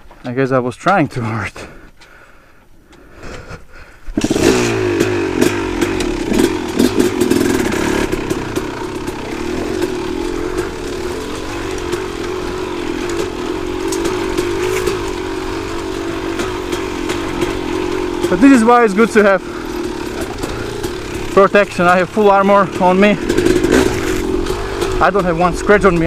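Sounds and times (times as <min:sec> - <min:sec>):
dirt bike engine idling: 0:03.7 - 0:26.0.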